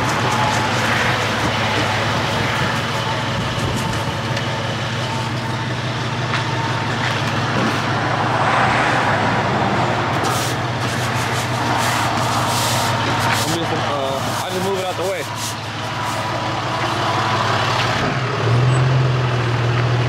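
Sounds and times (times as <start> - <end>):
road traffic: 0.0 - 20.0
truck engine running: 0.0 - 20.0.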